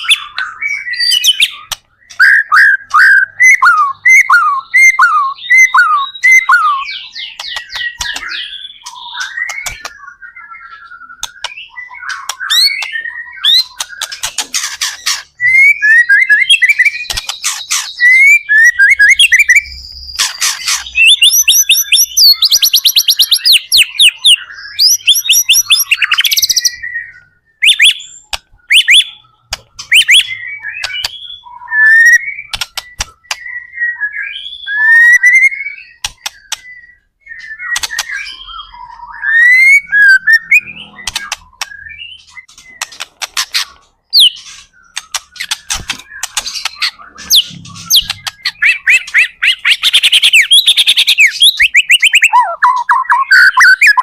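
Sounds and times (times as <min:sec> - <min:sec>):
songbird whistling and chattering: 0:00.0 - 0:54.0.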